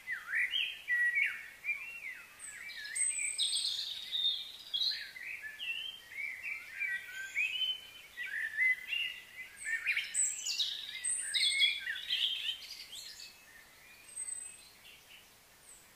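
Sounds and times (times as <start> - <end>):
birds singing and chirping: 0.0 - 15.9.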